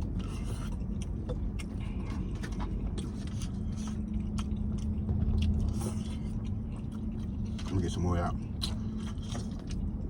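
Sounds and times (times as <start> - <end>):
person chewing: 0.0 - 10.0
steady low hum: 0.0 - 10.0.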